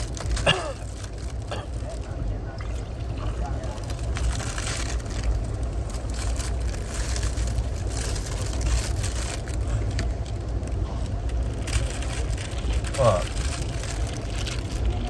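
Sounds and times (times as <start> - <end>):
train rumbling inside car: 0.0 - 15.0.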